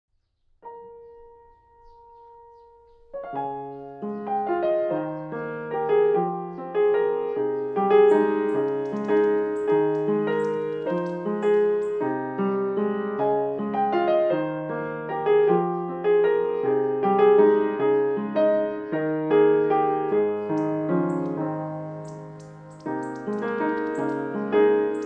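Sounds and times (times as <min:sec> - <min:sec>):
gentle solo piano: 0:00.6 - 0:25.0.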